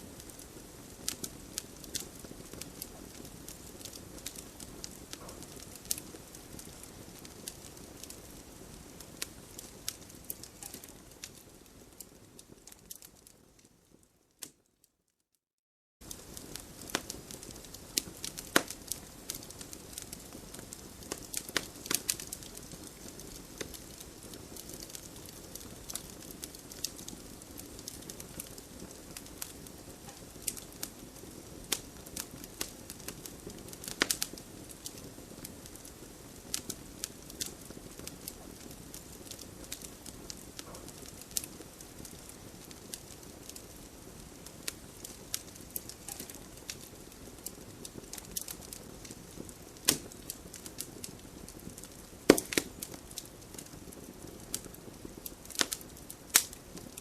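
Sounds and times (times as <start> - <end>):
campfire crackling and popping: 0.0 - 14.7, 16.0 - 57.0.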